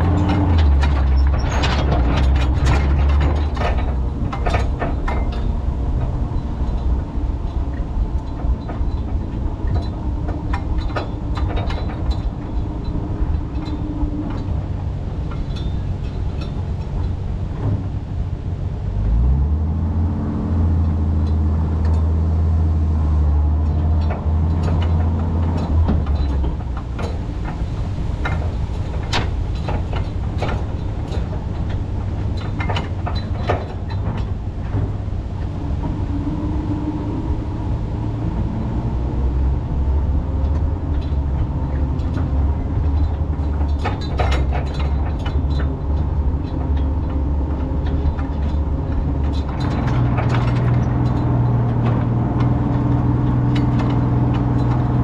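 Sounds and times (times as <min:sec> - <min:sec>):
truck body knocking and rattling: 0:00.0 - 0:55.0
truck engine running: 0:00.0 - 0:55.0.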